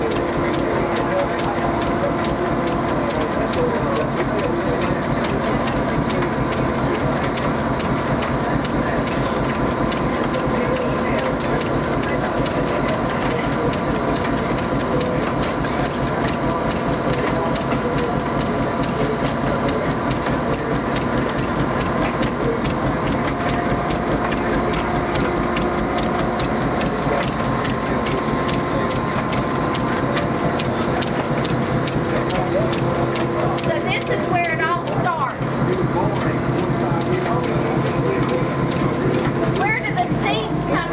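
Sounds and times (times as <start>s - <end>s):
machine belts and pulleys clattering: 0.0s - 40.9s.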